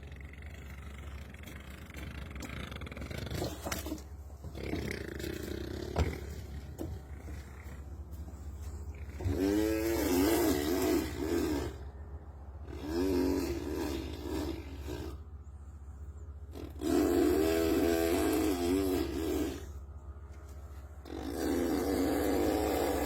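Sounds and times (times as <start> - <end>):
boy imitating engine buzzing: 0.0 - 15.8, 16.4 - 20.4, 21.0 - 23.0.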